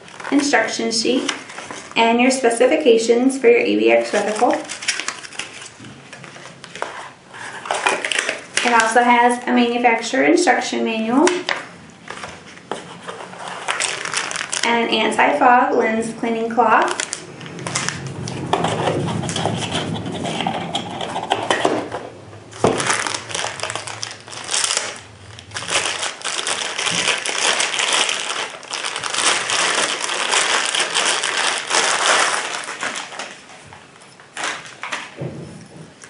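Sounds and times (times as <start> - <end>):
plastic wrap crinkling: 0.0 - 2.5, 3.5 - 10.0, 11.2 - 15.4, 16.3 - 35.2.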